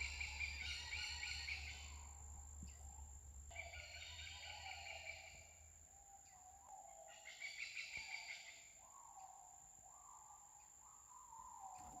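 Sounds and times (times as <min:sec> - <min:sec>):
high insect whine: 0:00.0 - 0:10.2
distant animal calling: 0:00.0 - 0:12.0
insect chirping: 0:00.0 - 0:12.0.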